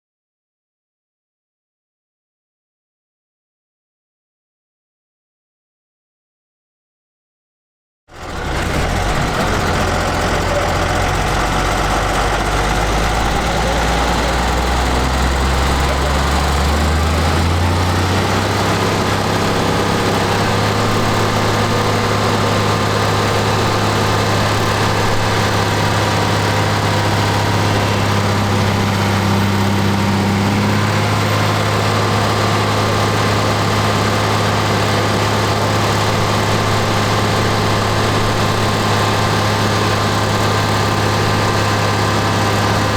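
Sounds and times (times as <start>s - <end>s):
tractor engine running: 8.1s - 42.9s.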